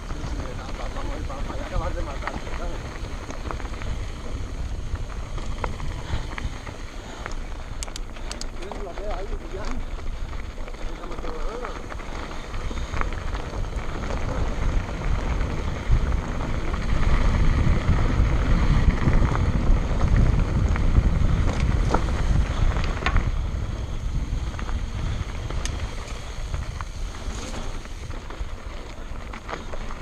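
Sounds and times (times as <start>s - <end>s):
bike tyres rolling over gravel: 0.0s - 30.0s
wind buffeting microphone: 0.0s - 30.0s.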